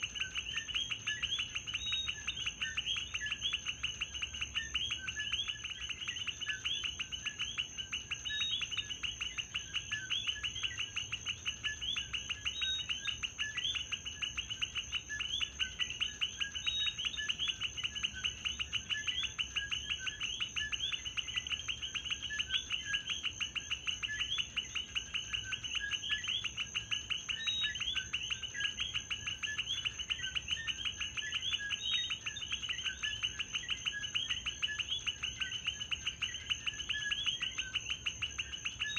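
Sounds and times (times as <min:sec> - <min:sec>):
chorus of frogs calling: 0:00.0 - 0:38.9.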